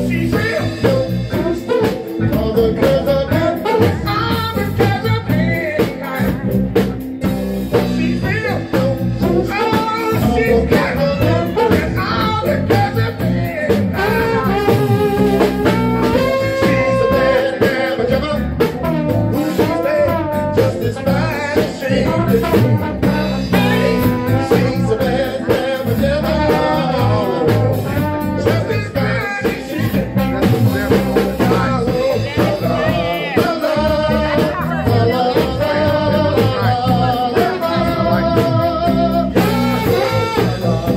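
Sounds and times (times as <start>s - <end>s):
live band playing: 0.0s - 40.9s
person singing: 0.0s - 40.9s
trombone: 0.0s - 40.9s.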